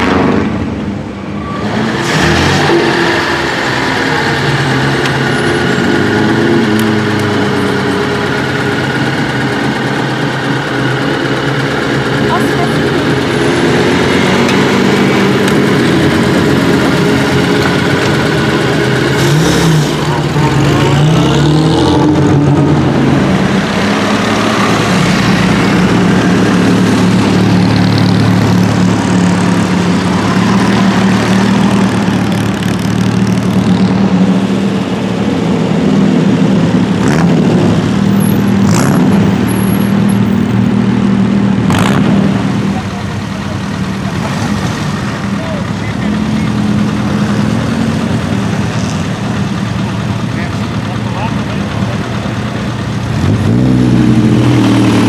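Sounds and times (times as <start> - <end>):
car engines idling and pulling away: 0.0 - 55.0.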